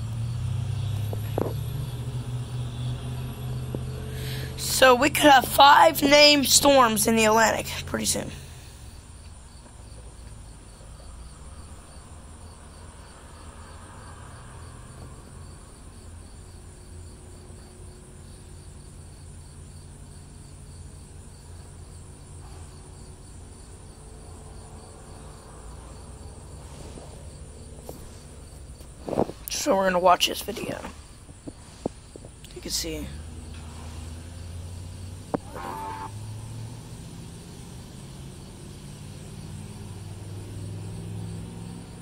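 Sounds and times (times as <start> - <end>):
cricket chirping: 0.0 - 4.6, 7.5 - 42.0.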